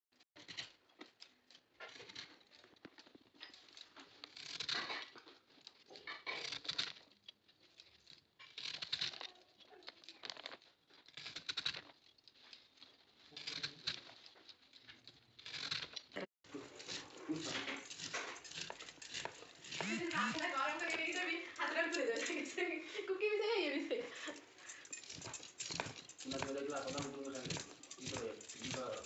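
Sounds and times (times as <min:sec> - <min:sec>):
fibres tearing: 0:00.4 - 0:29.0.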